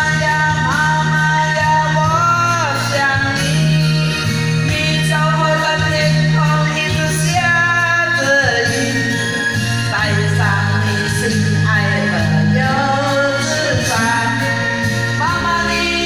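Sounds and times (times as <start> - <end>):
recorded backing track: 0.0 - 16.0
woman singing into microphone: 0.0 - 16.0.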